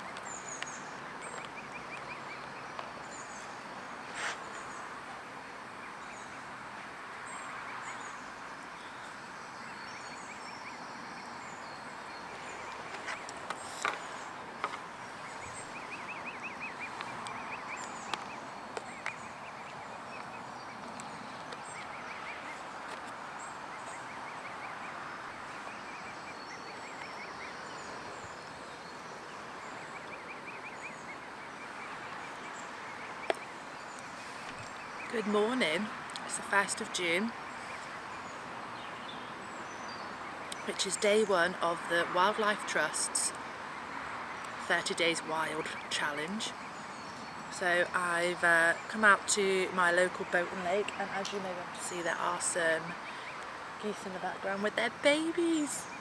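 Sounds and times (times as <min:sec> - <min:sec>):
small birds chirping: 0:00.0 - 0:56.0
steady distant hum: 0:00.0 - 0:56.0.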